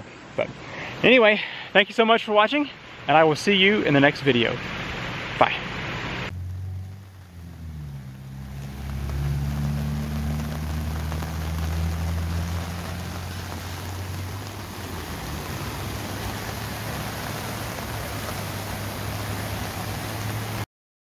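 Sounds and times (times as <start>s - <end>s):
floodwater rushing through creek: 0.3s - 20.7s
car engine hum on wet road: 2.7s - 20.7s.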